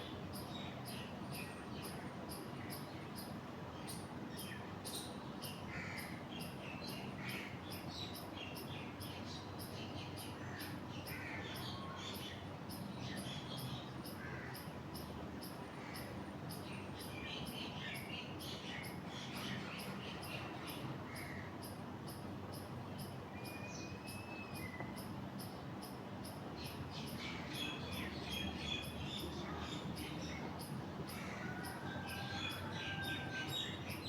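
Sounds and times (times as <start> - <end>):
insects chirping: 0.1 - 34.0.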